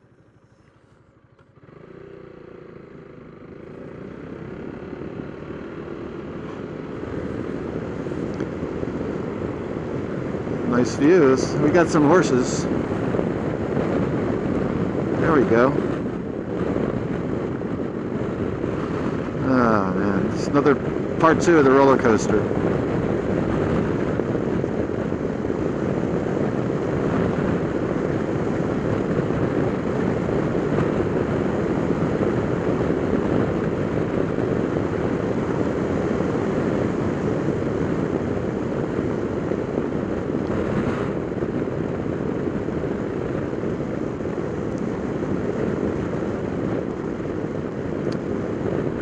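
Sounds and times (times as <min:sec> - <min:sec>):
scooter engine at road speed: 0:00.0 - 0:49.0.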